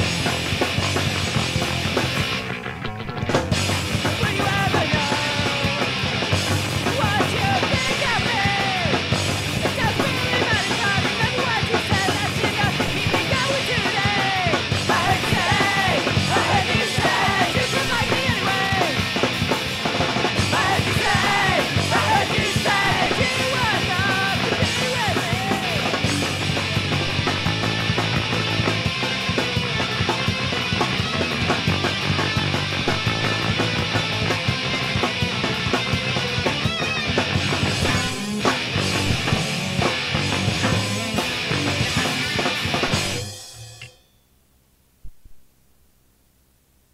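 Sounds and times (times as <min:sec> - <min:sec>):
punk rock band playing: 0:00.0 - 0:44.0.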